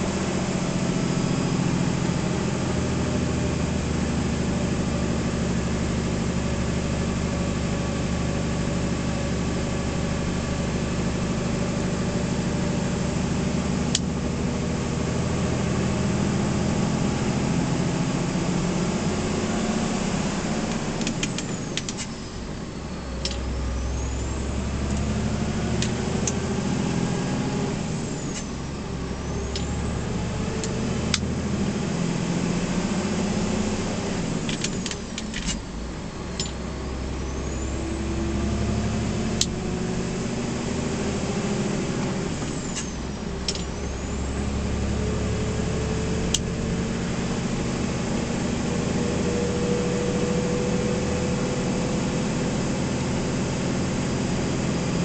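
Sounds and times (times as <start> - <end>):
lorry diesel engine under load: 0.0 - 55.0.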